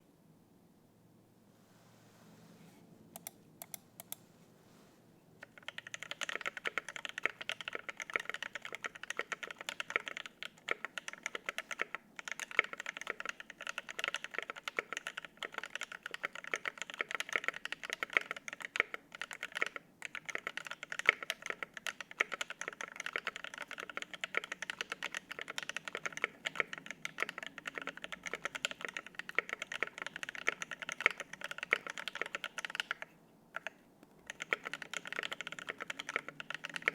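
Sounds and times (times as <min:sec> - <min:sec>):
typing on mechanical keyboard: 0:03.2 - 0:04.2, 0:05.4 - 0:36.9.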